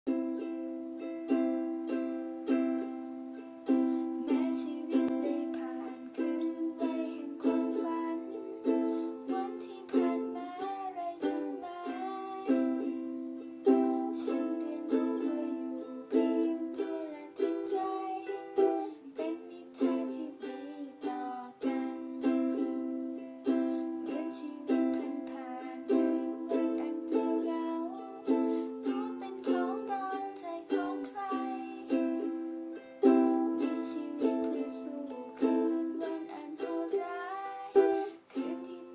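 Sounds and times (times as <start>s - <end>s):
ukulele strumming chords: 0.1s - 38.9s.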